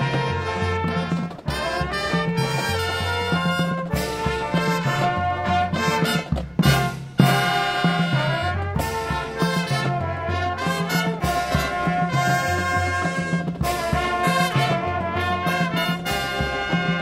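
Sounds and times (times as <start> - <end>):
brass melody: 0.0 - 17.0
drum hits: 0.0 - 17.0
marching band playing: 0.0 - 17.0.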